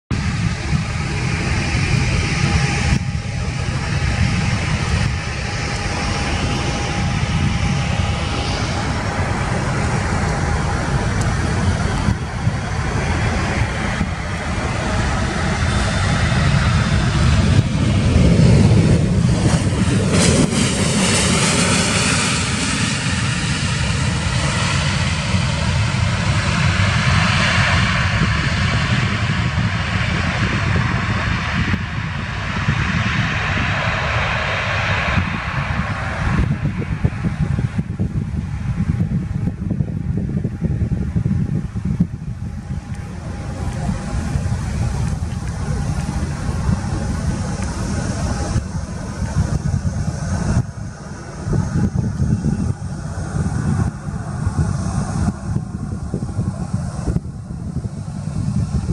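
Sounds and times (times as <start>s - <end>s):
jet engine rumble: 0.1s - 58.9s
thin steady jet whine: 0.1s - 58.9s.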